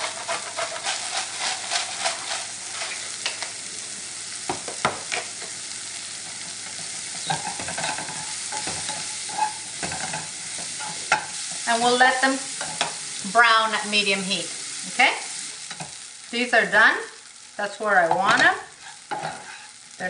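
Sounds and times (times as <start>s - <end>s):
mushrooms sizzling in a pan: 0.0s - 20.0s.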